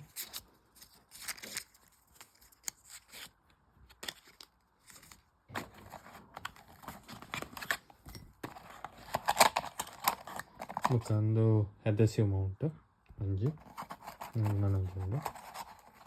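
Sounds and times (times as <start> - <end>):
light clicks and rustles of packaging: 0.0 - 11.2, 13.6 - 16.0.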